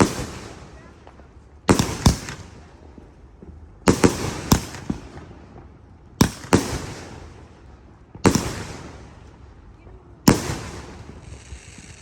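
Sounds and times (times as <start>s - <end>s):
firework bangs echoing: 0.0s - 11.4s.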